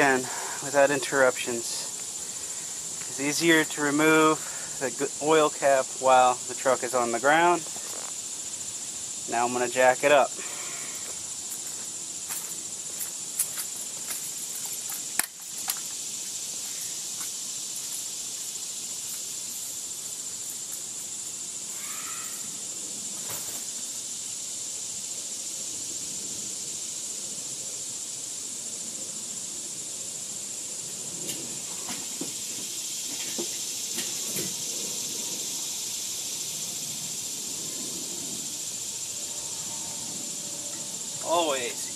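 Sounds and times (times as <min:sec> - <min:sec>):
high outdoor hiss: 0:00.0 - 0:41.9.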